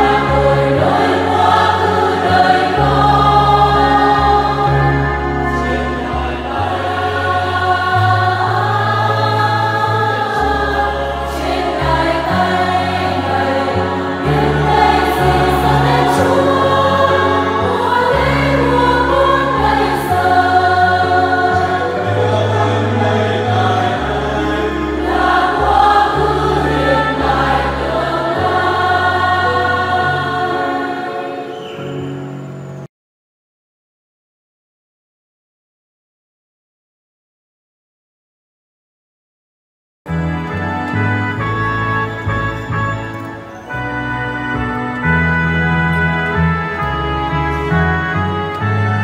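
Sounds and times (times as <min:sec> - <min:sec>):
choir singing a hymn: 0:00.0 - 0:32.9, 0:40.8 - 0:49.0.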